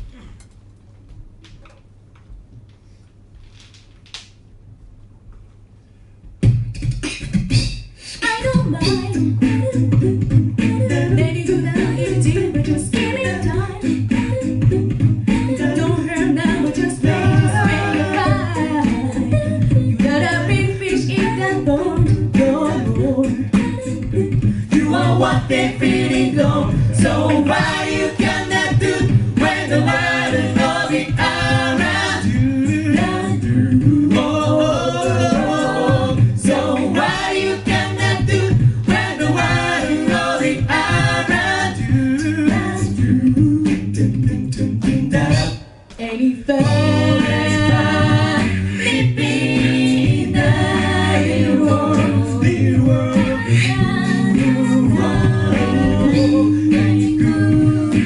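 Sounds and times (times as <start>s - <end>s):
a cappella group singing in harmony: 7.6s - 45.8s, 46.5s - 58.0s.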